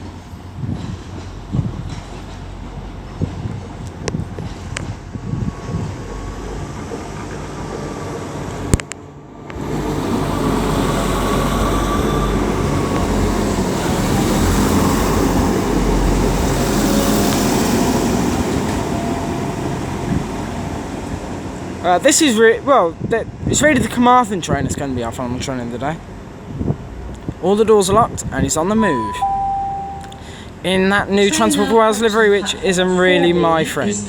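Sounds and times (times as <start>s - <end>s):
diesel train engines running: 0.0s - 34.0s.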